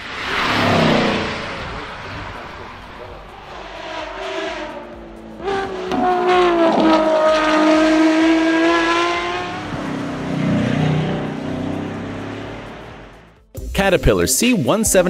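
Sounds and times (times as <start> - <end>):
deeper rough engine passing: 0.0 - 13.4
sports car engine revving past: 0.0 - 13.4.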